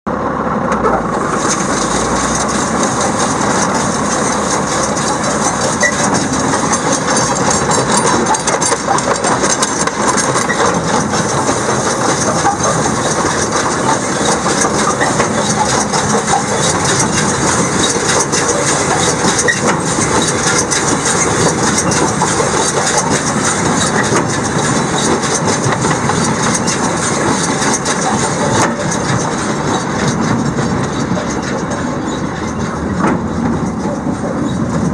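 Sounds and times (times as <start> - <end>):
baler and tractor running: 0.1 - 34.9.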